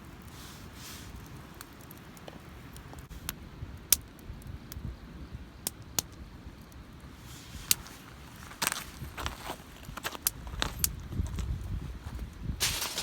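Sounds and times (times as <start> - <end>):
fire pops and snaps: 0.0 - 5.0, 5.6 - 11.3, 12.4 - 13.0
campfire burning: 0.0 - 13.0.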